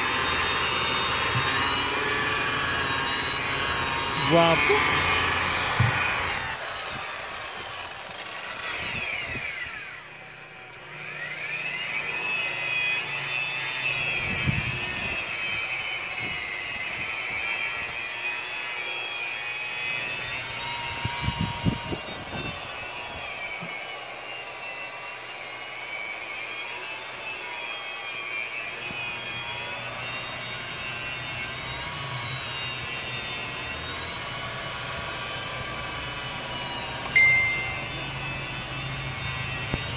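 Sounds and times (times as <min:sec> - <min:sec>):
angle grinder whining: 0:00.0 - 0:39.9.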